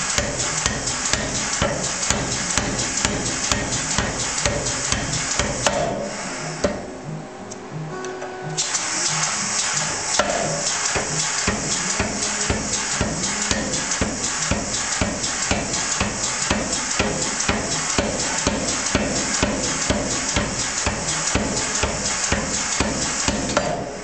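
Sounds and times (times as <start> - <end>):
power hammer striking steel bar: 0.0 - 6.8, 9.8 - 23.9.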